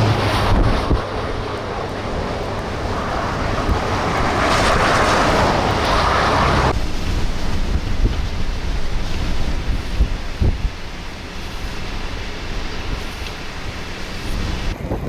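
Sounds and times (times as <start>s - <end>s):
heavy surf rushing: 0.0s - 14.8s
low rumble: 0.0s - 14.9s
wind buffeting microphone: 0.0s - 15.0s.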